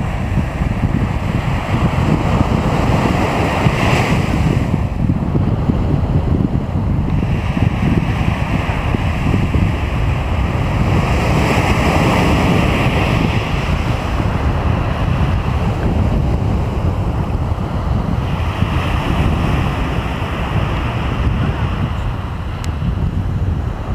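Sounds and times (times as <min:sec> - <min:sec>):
sea surf washing onto shore: 0:00.0 - 0:23.9
wind buffeting the microphone: 0:00.0 - 0:23.9.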